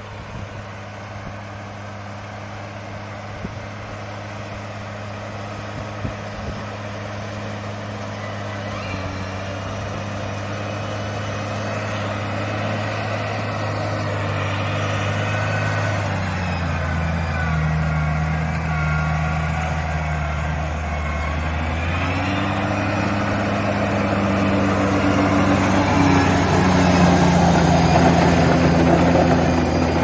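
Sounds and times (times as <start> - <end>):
rotary tiller whining: 0.0 - 30.0
tractor engine under load: 0.0 - 30.0.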